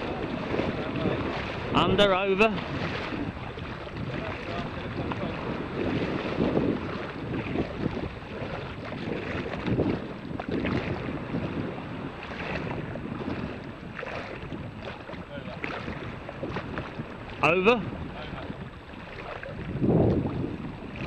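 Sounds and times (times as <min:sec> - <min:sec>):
small waves lapping: 0:00.0 - 0:21.0
wind buffeting microphone: 0:00.0 - 0:21.0.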